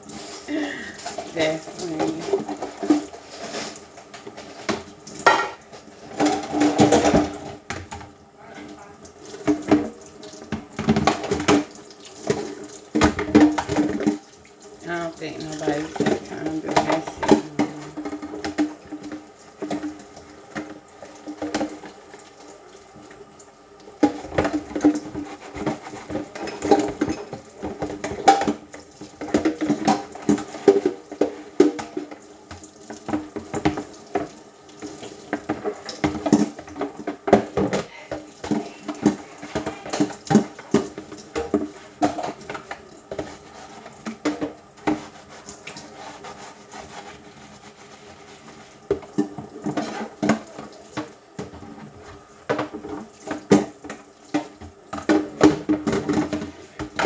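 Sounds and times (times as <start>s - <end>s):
plastic colander handled: 0.0s - 22.4s, 24.0s - 57.0s
water running and splashing: 0.0s - 57.0s
dishes knocking and clinking: 1.1s - 8.8s, 9.4s - 14.2s, 15.7s - 21.9s, 24.0s - 34.4s, 35.3s - 45.1s, 48.9s - 57.0s.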